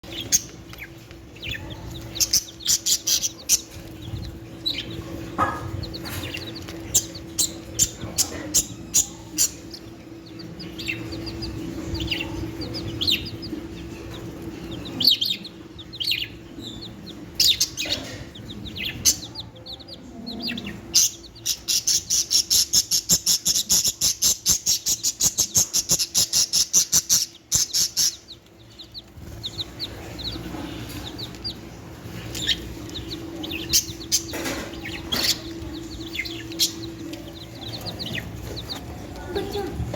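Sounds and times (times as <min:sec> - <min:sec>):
budgerigars chirping: 0:00.0 - 0:39.9
chicks peeping: 0:00.0 - 0:39.9
steady low hum: 0:00.0 - 0:39.9.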